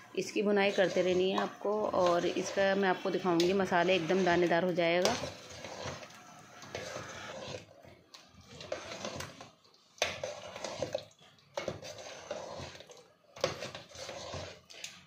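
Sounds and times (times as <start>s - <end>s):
spoon stirring curry in pan: 0.1s - 15.0s.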